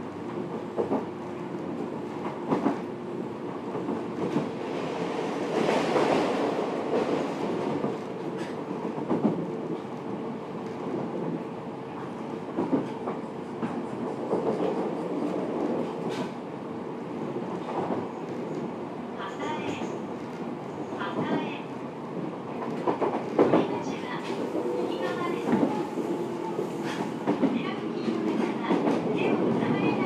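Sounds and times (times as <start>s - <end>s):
train rolling rumble: 0.0s - 30.0s.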